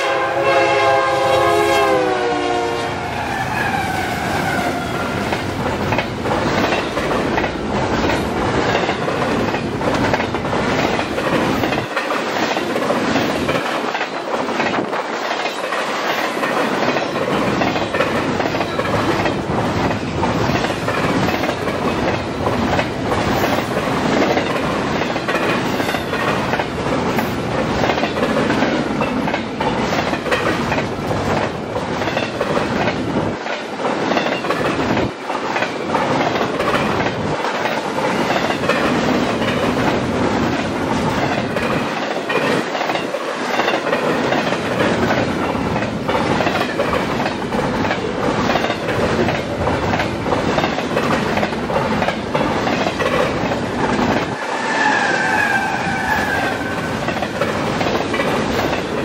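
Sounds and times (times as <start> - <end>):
train rumbling past: 0.0 - 59.0
wheels clacking over rail joints: 5.2 - 54.4, 55.5 - 59.0.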